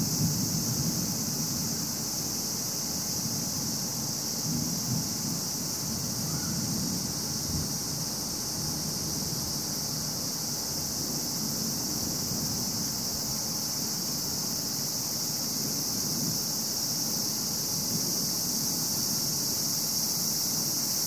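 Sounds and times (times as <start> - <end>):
insects chirping chorus: 0.0 - 21.0.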